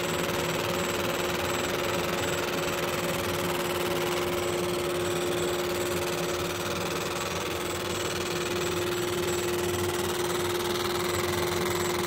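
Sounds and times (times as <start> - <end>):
laser engraver buzzing hum: 0.0 - 12.0.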